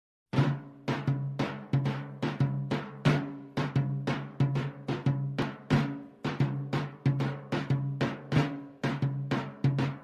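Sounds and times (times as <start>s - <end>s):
drum struck in quick rhythm: 0.3s - 10.0s.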